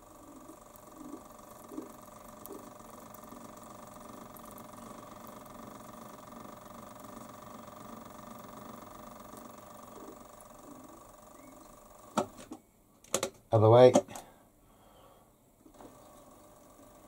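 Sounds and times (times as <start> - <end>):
milling machine spindle whine: 0.0 - 12.5, 15.7 - 17.0.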